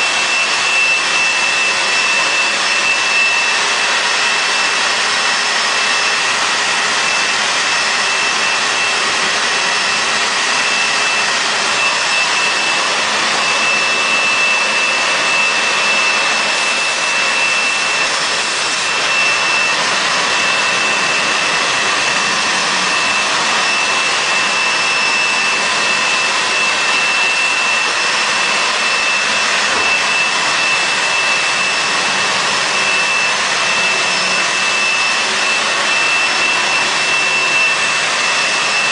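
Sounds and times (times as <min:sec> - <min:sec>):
high-pitched whine: 0:00.0 - 0:38.9
washing machine running: 0:00.0 - 0:38.9.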